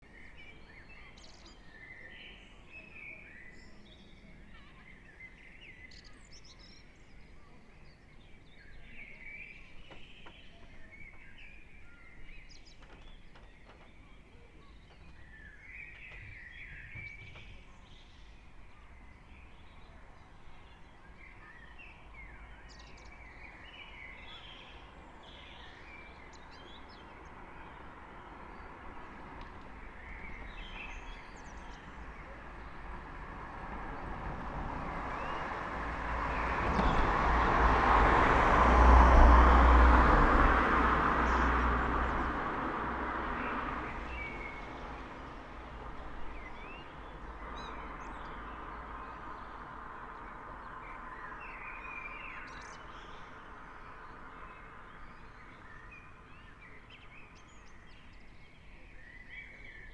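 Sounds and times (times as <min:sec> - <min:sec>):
birds chirping and trilling: 0:00.0 - 0:37.9, 0:41.1 - 0:59.9
distant traffic rumble: 0:00.0 - 0:59.9.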